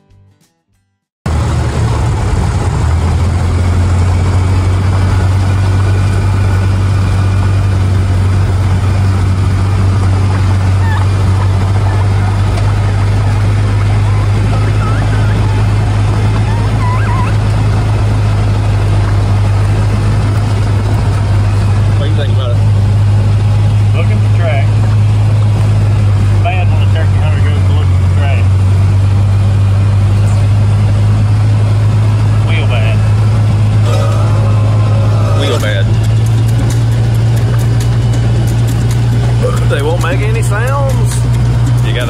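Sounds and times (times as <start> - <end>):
utility vehicle engine running: 1.3 - 42.0
wind and terrain rumble: 1.3 - 42.0.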